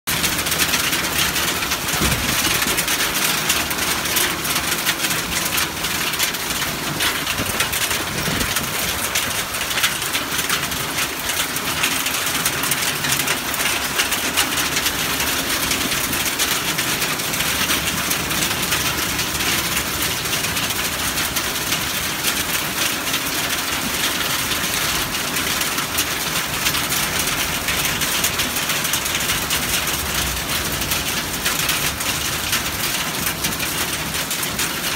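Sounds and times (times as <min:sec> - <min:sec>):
hail and heavy rain on pavement: 0:00.1 - 0:34.9.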